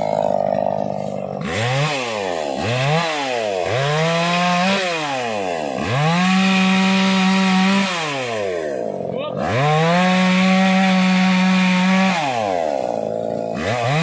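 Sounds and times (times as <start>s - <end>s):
chainsaw cutting wood: 0.0s - 14.0s
chainsaw revving: 0.0s - 14.0s.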